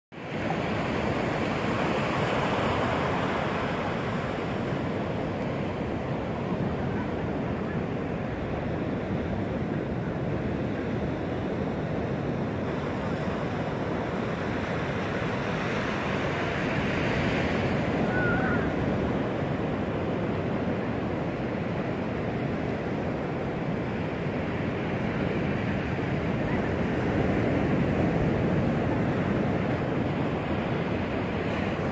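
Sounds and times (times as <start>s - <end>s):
ocean surf breaking on beach: 0.2s - 31.9s.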